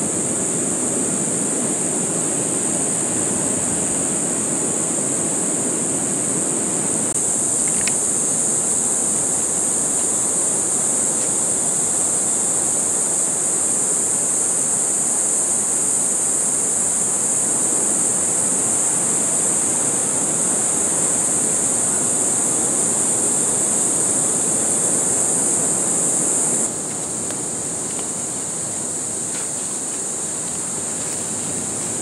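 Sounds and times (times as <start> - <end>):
high-pitched hiss: 0.0 - 32.0
wind: 0.0 - 32.0.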